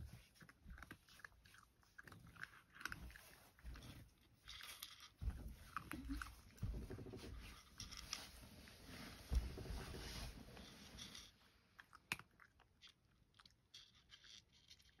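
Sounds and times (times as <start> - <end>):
cat chewing dry kibble: 0.0 - 8.4, 10.9 - 15.0.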